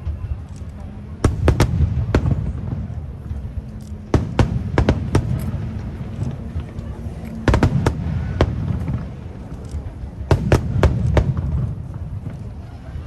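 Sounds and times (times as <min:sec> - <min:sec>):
continuous low rumble: 0:00.0 - 0:13.0
fireworks bursting: 0:00.0 - 0:13.0.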